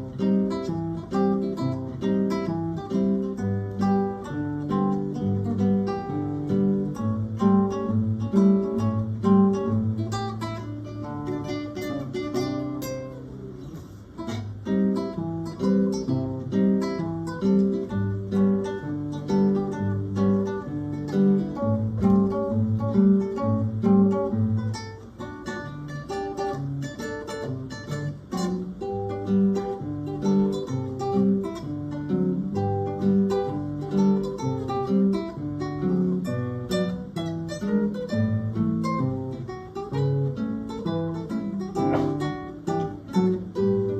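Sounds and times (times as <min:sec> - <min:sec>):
acoustic guitars playing: 0:00.0 - 0:43.9.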